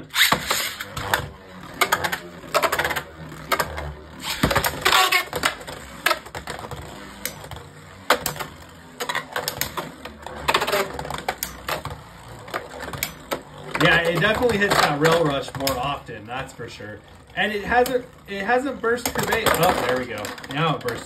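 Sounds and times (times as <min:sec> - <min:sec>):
spinning tops clacking: 0:00.0 - 0:21.0.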